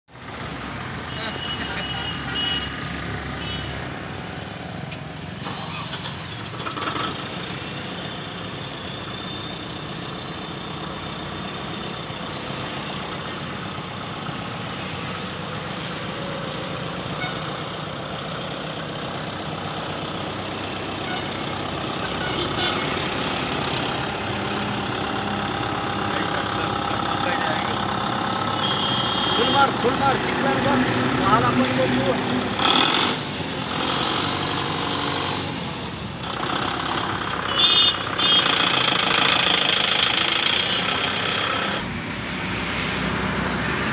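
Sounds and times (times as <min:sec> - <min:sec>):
tractor diesel engine running: 0:03.4 - 0:43.9.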